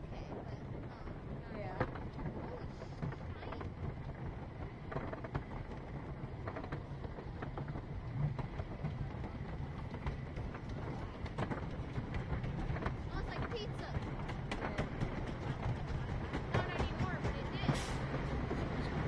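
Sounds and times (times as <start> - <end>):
roller coaster rumble: 0.0 - 19.0
wheels clacking on wooden rails: 0.0 - 19.0.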